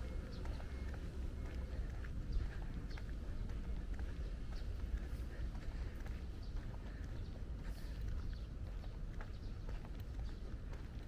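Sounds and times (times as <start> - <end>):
footsteps on pavement: 0.0 - 11.0.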